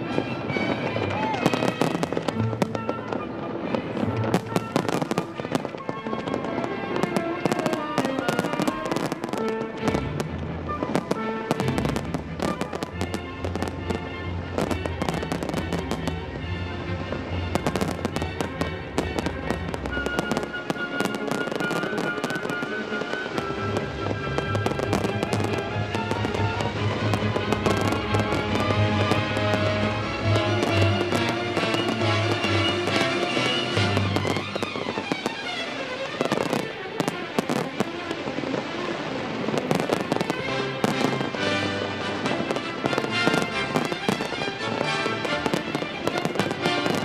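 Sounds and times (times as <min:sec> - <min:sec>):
fireworks bursting and crackling: 0:00.0 - 0:47.0
music playing: 0:00.0 - 0:47.0.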